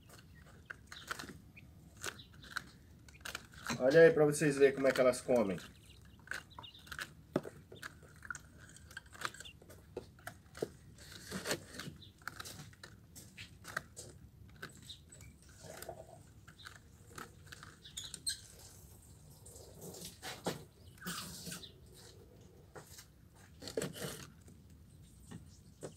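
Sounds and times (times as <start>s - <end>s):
birds pecking: 0.0s - 25.9s.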